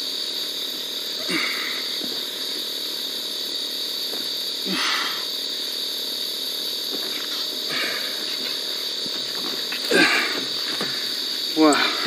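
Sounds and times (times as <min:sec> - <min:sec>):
night insects chorus: 0:00.0 - 0:12.0.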